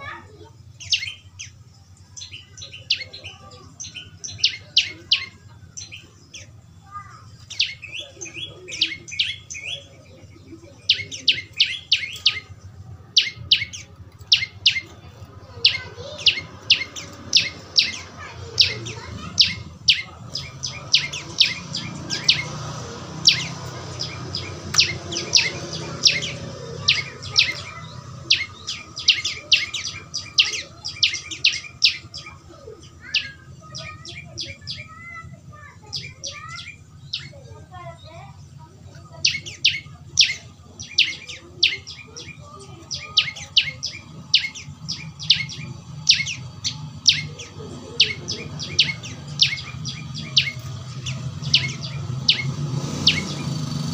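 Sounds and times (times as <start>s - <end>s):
young bird chirping: 0.0s - 53.9s.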